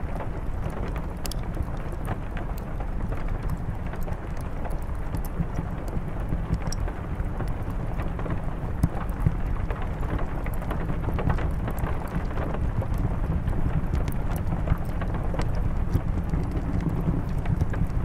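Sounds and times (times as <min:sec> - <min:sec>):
rain on a window: 0:00.0 - 0:18.0.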